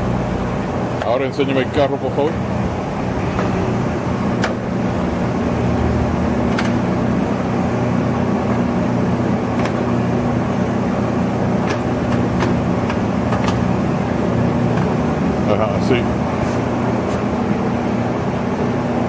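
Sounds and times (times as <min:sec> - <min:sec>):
lathe humming: 0:01.6 - 0:19.0.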